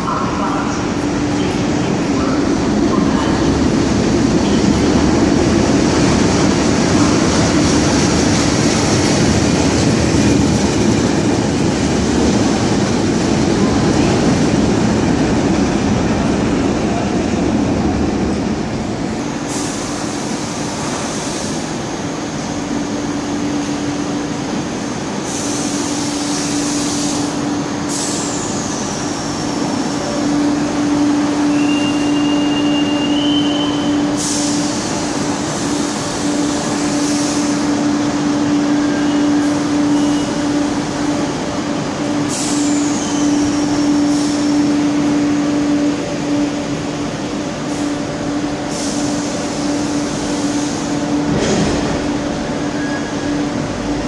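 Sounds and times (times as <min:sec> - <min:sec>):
train electric hum: 0:00.0 - 0:54.0.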